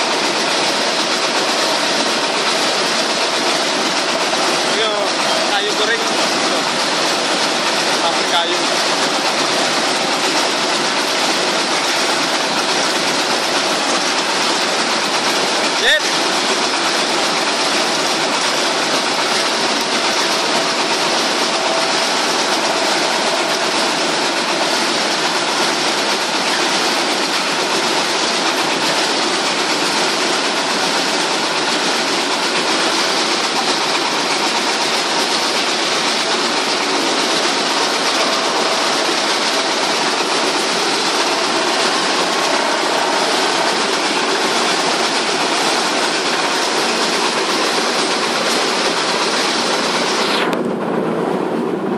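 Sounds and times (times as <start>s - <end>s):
wood chipper running: 0.0s - 51.8s.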